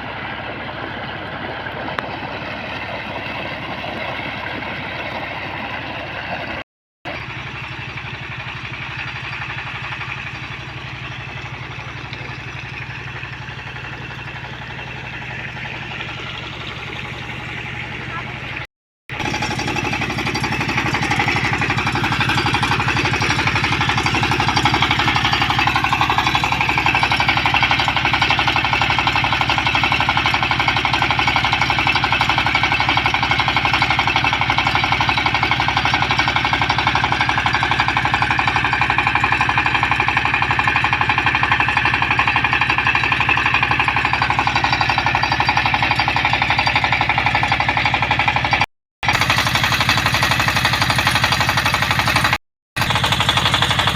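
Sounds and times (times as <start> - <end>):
diesel engine under load: 0.0 - 53.9.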